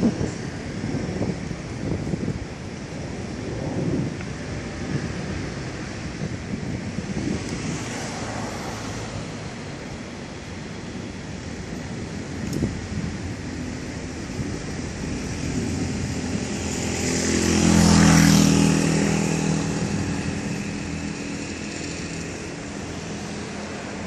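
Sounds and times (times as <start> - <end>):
airplane flying overhead: 0.0 - 24.0.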